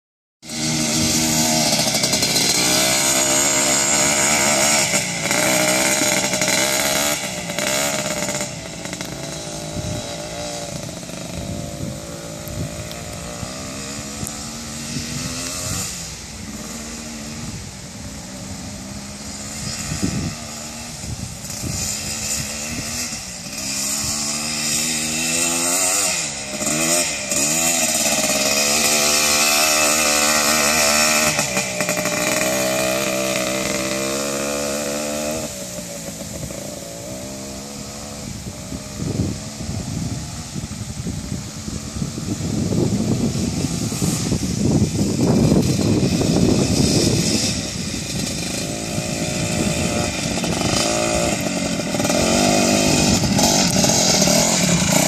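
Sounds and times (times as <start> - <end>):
two-stroke engine revving: 0.4 - 55.0.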